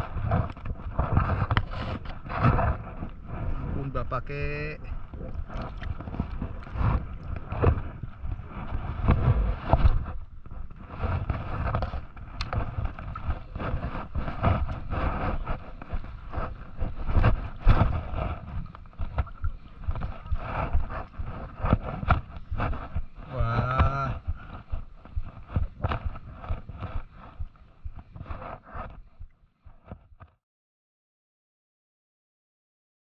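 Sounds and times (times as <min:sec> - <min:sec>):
seawater sloshing around wading person: 0:00.8 - 0:27.5.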